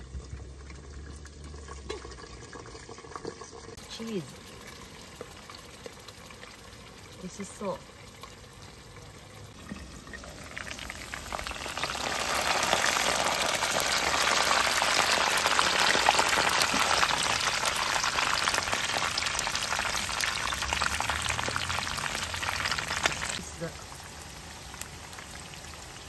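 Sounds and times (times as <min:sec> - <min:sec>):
ribs sizzling in hot oil: 0:00.0 - 0:26.0.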